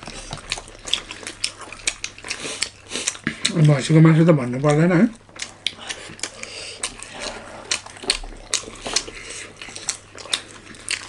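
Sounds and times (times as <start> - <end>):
chewing and wet mouth clicks: 0.0 - 11.0.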